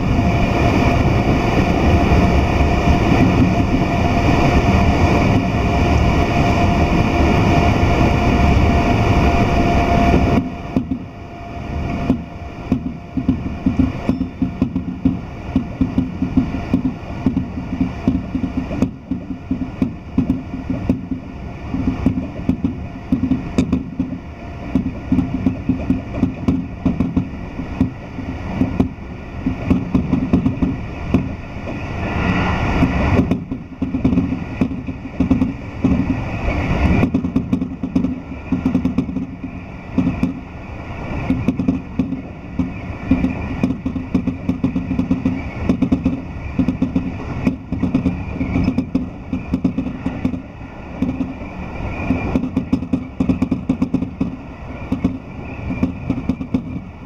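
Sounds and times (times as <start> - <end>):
rushing noise: 0.0 - 57.0
train rumble inside carriage: 0.0 - 57.0
wheels clicking on rails: 0.0 - 57.0.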